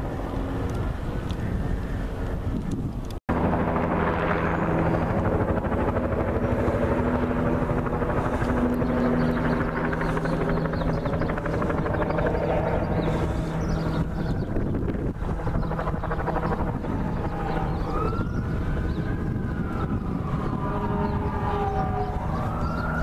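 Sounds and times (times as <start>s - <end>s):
helicopter rotor beating: 0.0s - 23.0s.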